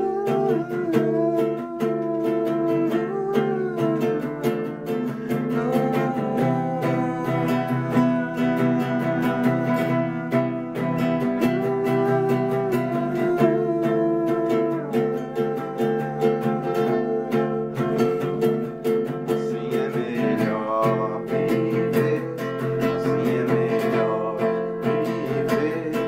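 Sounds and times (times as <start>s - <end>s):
acoustic guitar strumming: 0.0s - 26.0s
wordless vocal line: 0.0s - 26.0s.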